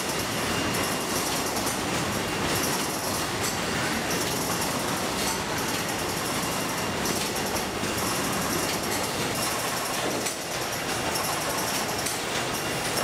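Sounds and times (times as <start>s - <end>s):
packaging machinery clatter: 0.0s - 13.0s.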